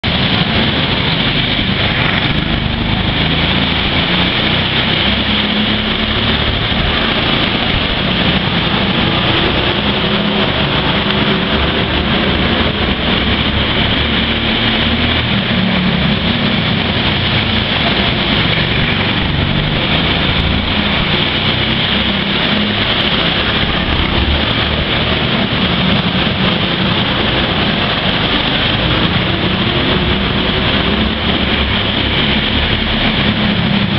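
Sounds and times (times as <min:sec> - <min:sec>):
go-kart engines running: 0:00.0 - 0:33.9.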